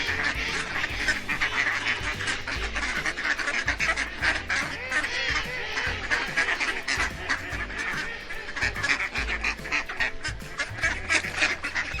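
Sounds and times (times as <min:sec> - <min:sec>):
low rumble: 0:00.0 - 0:09.6
ducks quacking: 0:00.0 - 0:12.0.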